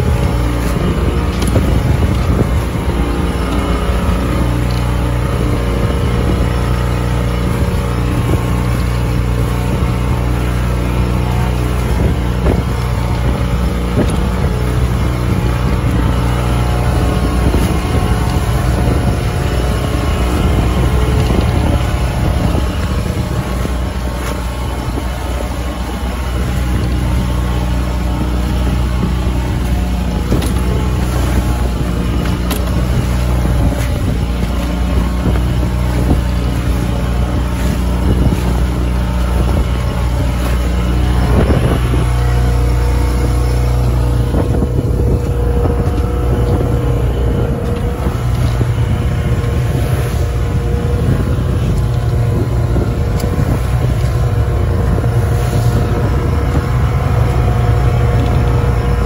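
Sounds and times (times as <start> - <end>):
boat engine droning: 0.0 - 59.0
water rushing along hull: 0.0 - 59.0.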